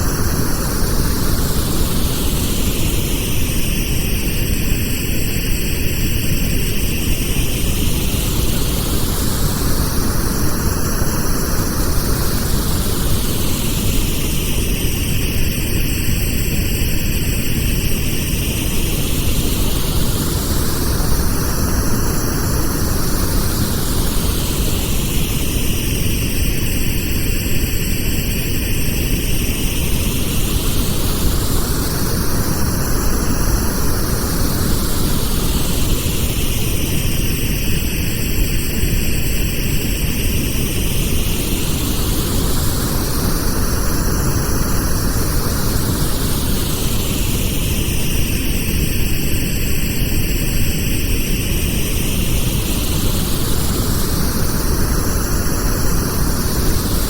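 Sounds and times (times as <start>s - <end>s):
synthetic pink noise hiss: 0.0s - 57.0s.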